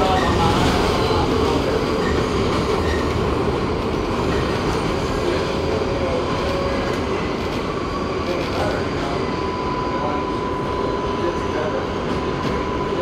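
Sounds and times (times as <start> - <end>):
train wheels rumbling and rattling: 0.0 - 13.0.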